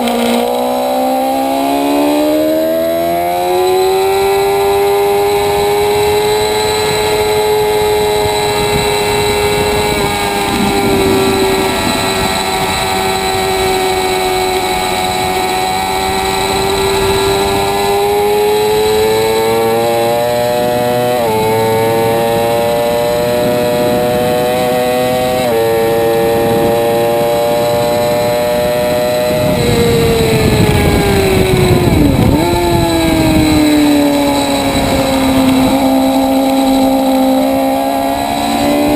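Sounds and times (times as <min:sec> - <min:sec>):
motorcycle engine at high revs: 0:00.0 - 0:38.9
wind rush: 0:01.5 - 0:38.9.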